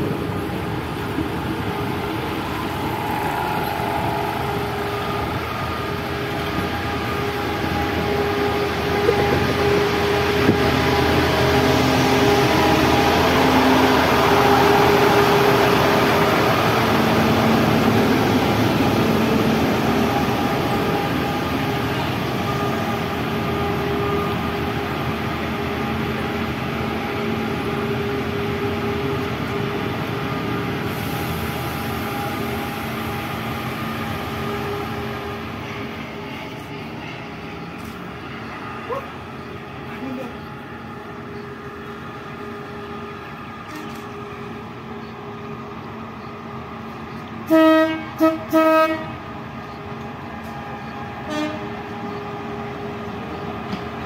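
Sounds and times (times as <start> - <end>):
railcar wheels on rail: 0.0 - 54.0.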